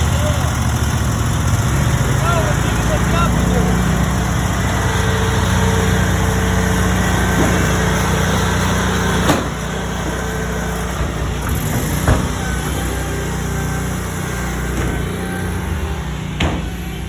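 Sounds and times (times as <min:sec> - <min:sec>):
small gasoline engines running: 0:00.0 - 0:17.0.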